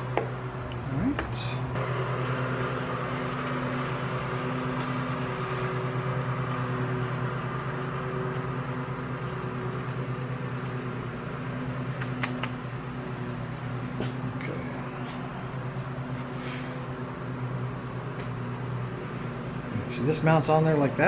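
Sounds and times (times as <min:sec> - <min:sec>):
electric motor hum: 0:00.0 - 0:21.0.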